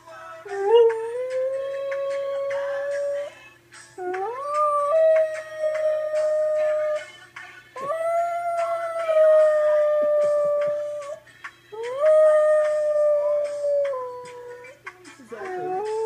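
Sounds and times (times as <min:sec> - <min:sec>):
song playing: 0:00.0 - 0:16.0
dog howling: 0:00.5 - 0:03.4, 0:04.0 - 0:07.1, 0:07.8 - 0:11.2, 0:11.8 - 0:14.8, 0:15.4 - 0:16.0.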